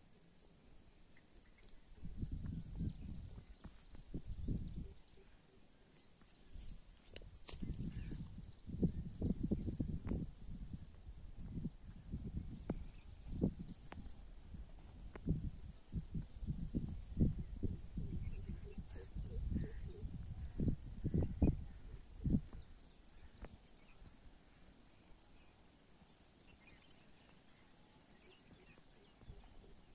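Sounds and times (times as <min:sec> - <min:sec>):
crickets chirring: 0:00.0 - 0:29.9.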